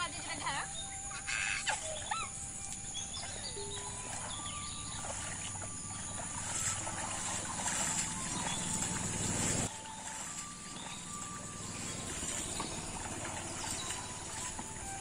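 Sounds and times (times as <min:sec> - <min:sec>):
birds swooping calls: 0:00.0 - 0:15.0
high-pitched insect drone: 0:00.6 - 0:15.0.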